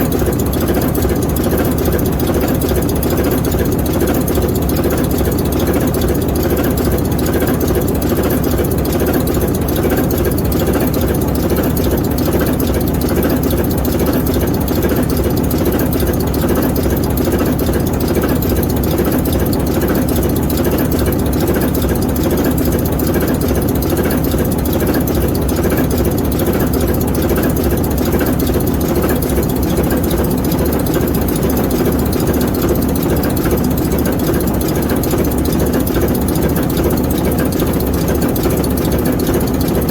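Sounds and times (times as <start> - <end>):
locomotive diesel engine running: 0.0 - 39.9.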